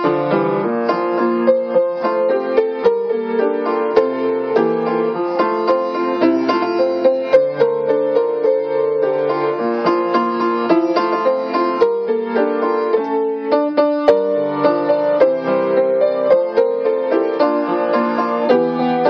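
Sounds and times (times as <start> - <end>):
solo piano melody: 0.0 - 19.0.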